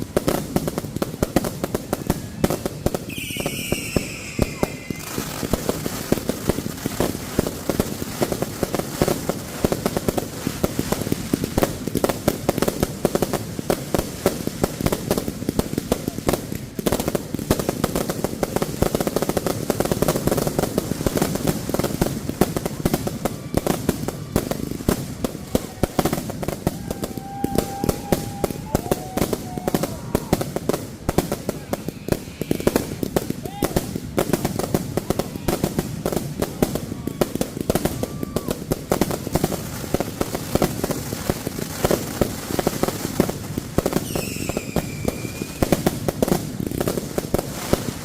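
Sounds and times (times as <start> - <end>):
fireworks popping and crackling: 0.0 - 48.0.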